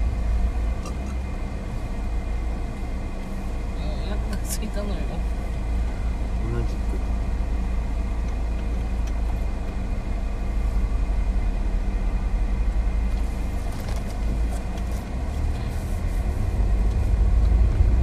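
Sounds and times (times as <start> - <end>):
car cabin road and engine rumble: 0.0 - 18.0.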